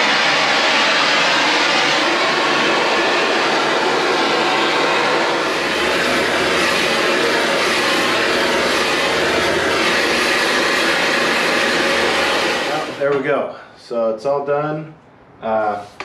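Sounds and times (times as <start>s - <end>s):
gas torch burning: 0.0s - 13.4s.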